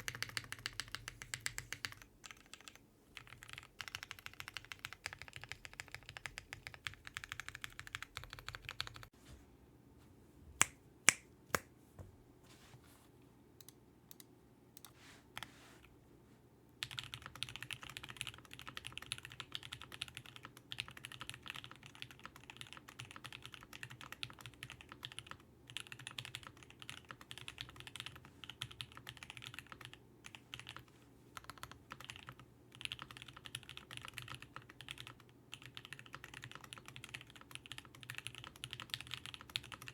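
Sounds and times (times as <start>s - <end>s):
mechanical keyboard typing: 0.0s - 9.1s, 16.8s - 39.9s.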